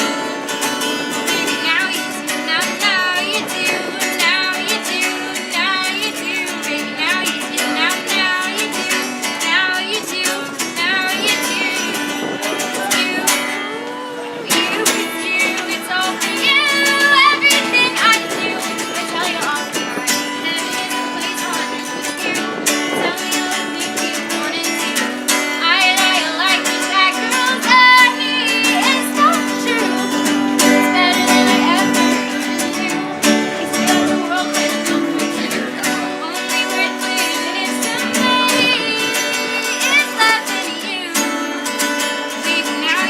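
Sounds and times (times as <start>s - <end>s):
person singing: 0.0s - 43.0s
plucked guitar: 0.0s - 43.0s.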